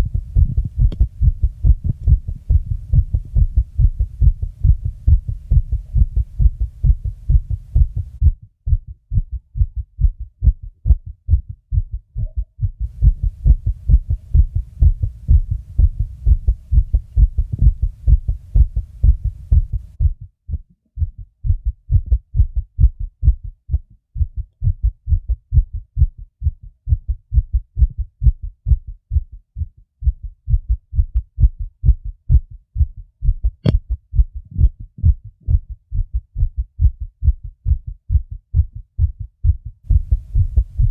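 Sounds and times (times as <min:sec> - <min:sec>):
fast heartbeat thumps: 0:00.0 - 0:40.9.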